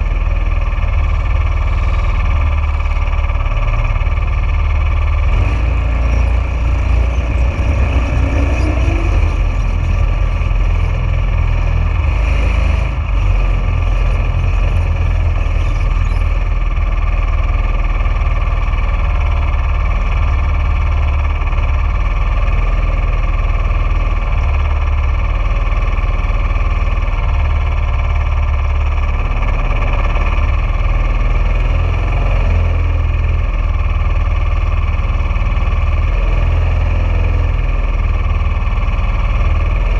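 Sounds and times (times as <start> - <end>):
dragster engine rumbling: 0.0 - 39.9.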